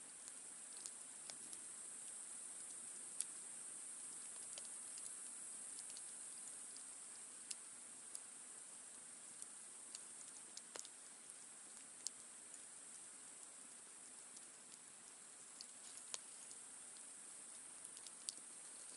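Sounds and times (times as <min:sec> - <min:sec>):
campfire crackling: 0:00.0 - 0:18.9
soft hiss: 0:00.0 - 0:18.9.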